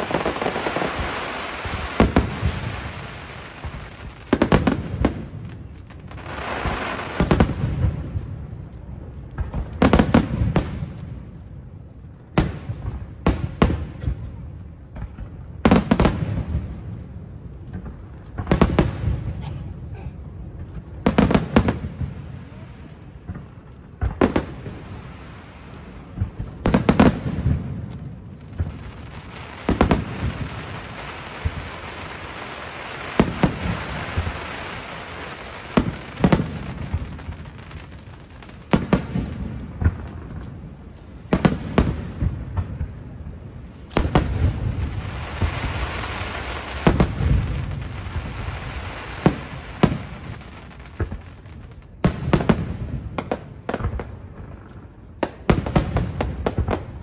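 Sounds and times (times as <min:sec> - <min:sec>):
fireworks booming: 0:00.0 - 0:57.0
fireworks crackle: 0:00.0 - 0:57.0.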